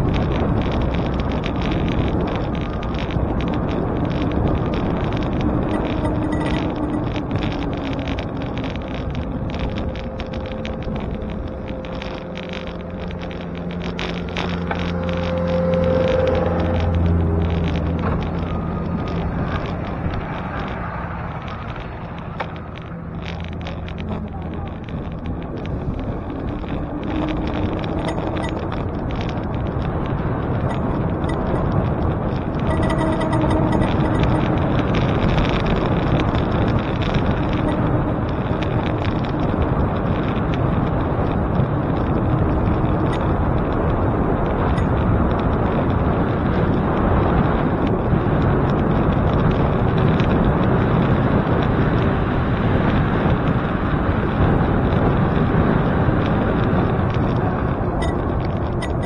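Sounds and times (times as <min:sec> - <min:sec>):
motor vehicle engine hum: 0:00.0 - 0:59.0
wind and road rush: 0:00.0 - 0:59.0.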